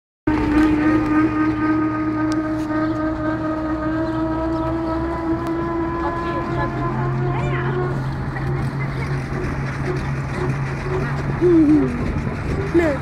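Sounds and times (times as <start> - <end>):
road train engine drone: 0.3 - 13.0.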